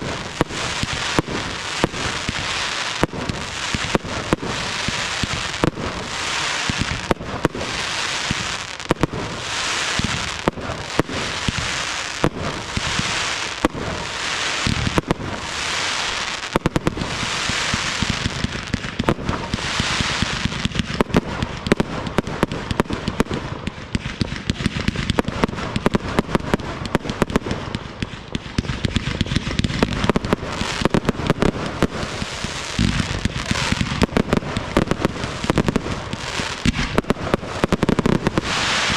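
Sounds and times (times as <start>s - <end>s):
fireworks hissing launches: 0.0s - 21.6s, 29.0s - 38.9s
fireworks bangs and crackle: 0.0s - 38.9s.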